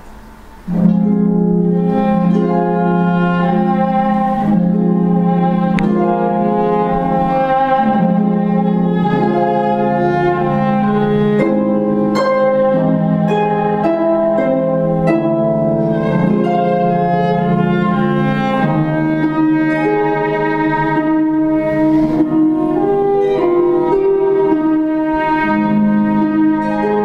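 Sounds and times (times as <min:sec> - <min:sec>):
plucked harp notes: 0:00.0 - 0:27.0
viola bowed notes: 0:00.0 - 0:27.0.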